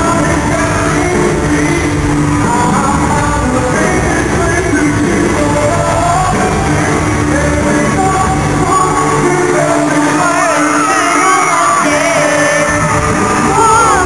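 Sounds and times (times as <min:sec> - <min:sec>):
person singing: 0:00.0 - 0:14.0
rock band playing live: 0:00.0 - 0:14.0.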